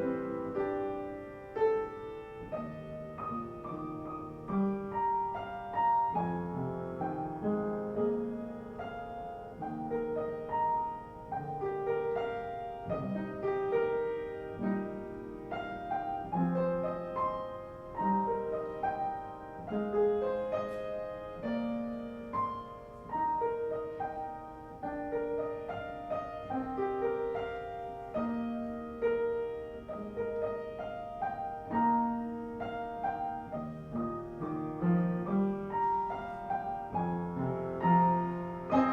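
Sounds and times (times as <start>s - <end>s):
solo piano music: 0.0s - 38.9s.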